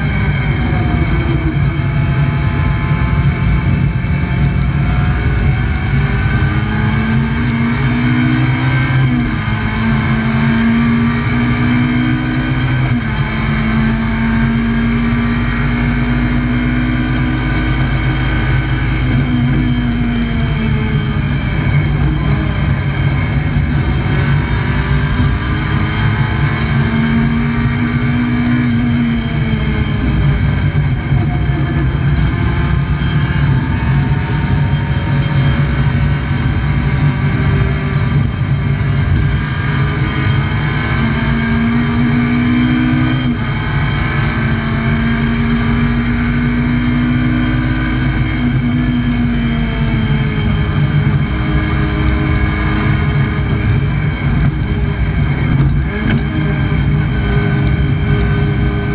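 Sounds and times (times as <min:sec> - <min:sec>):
race car engine under load: 0:00.0 - 0:58.9.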